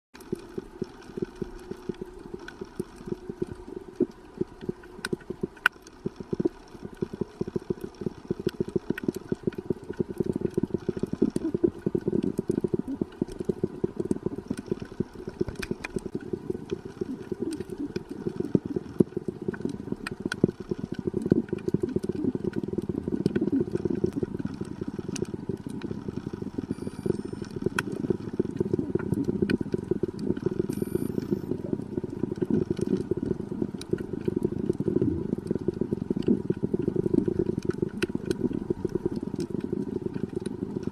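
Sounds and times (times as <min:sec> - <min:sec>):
sharp underwater clicks: 0:00.2 - 0:40.9
underwater crackle: 0:00.2 - 0:40.9.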